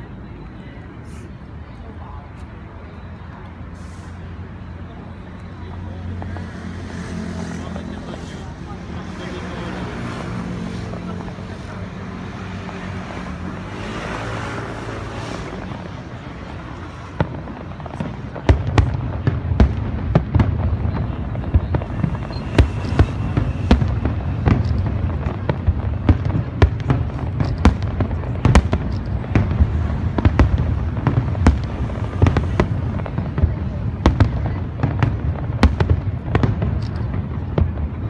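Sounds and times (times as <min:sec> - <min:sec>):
fireworks bangs and cracks: 0:02.0 - 0:38.0.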